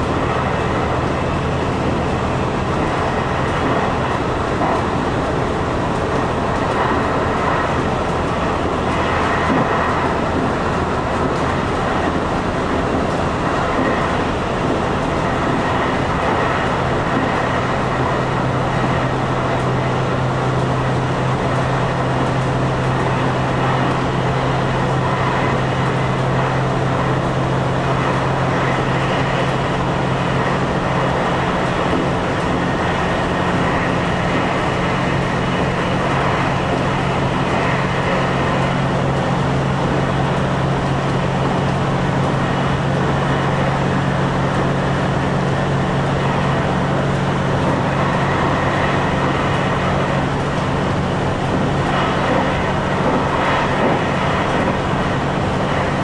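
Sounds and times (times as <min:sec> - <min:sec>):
diesel engine hum: 0:00.0 - 0:56.0
train wheels rumbling on rails: 0:00.0 - 0:56.0.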